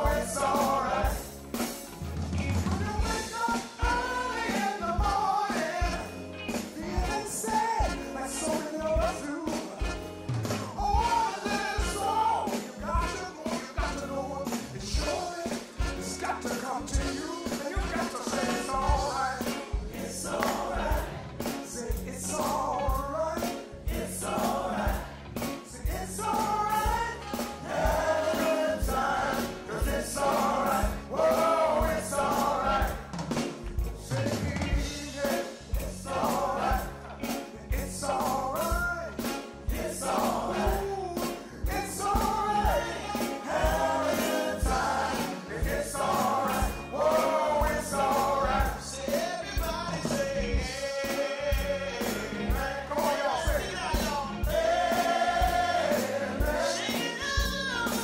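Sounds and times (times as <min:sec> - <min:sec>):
singers with live band: 0:00.0 - 0:58.0.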